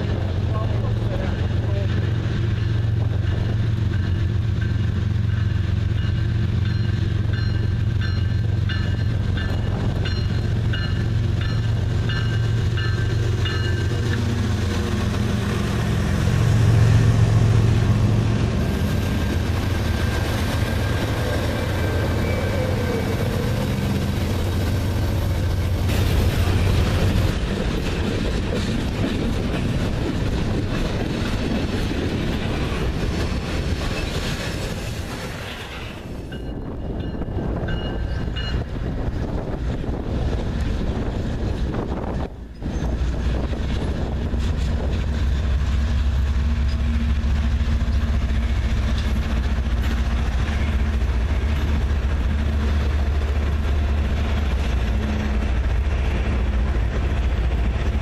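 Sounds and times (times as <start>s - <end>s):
diesel locomotive engines droning: 0.0s - 58.0s.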